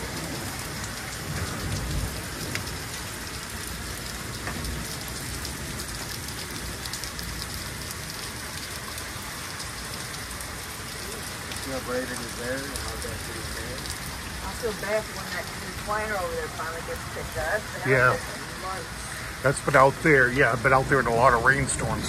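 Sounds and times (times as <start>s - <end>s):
rain on leaves and pavement: 0.0s - 22.0s.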